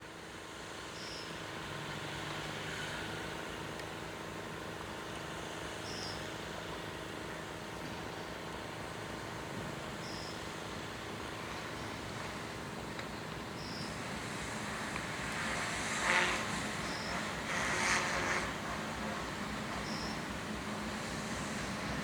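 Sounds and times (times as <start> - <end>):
road traffic passing: 0.1 - 22.0.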